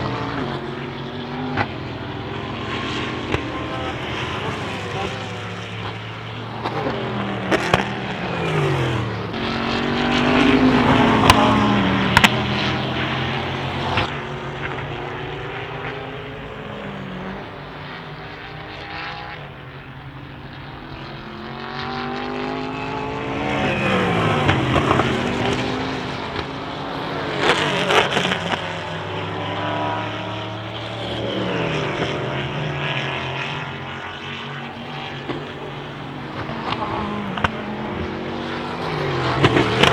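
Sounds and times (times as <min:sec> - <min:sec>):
race cars passing at speed: 0:00.0 - 0:39.9.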